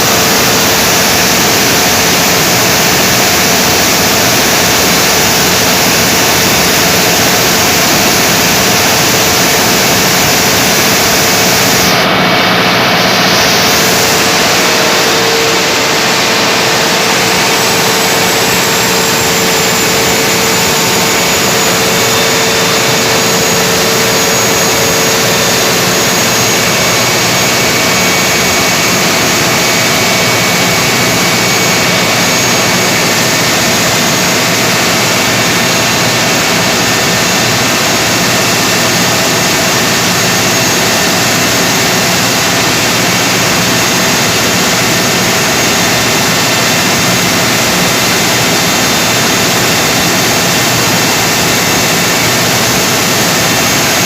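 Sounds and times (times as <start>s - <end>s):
generator rushing noise: 0.0s - 54.0s.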